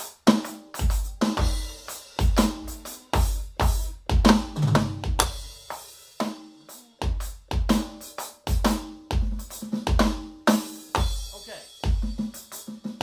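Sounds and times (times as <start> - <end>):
electronic drum kit groove: 0.0 - 13.0.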